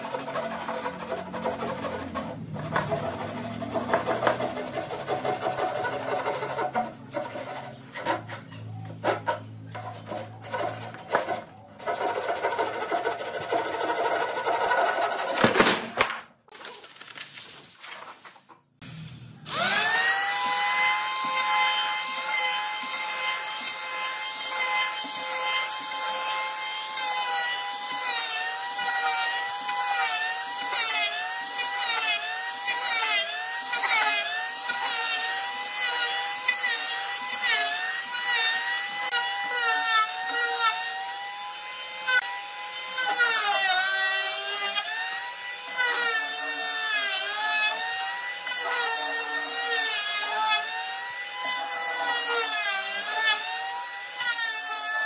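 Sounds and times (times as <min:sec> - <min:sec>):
electric planer cutting wood: 0:00.0 - 0:15.4, 0:19.5 - 0:55.0.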